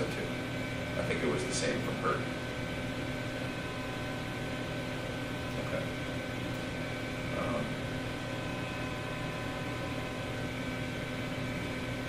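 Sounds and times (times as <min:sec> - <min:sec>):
background hum and hiss: 0:00.0 - 0:12.0
faint steady tones: 0:00.0 - 0:12.0.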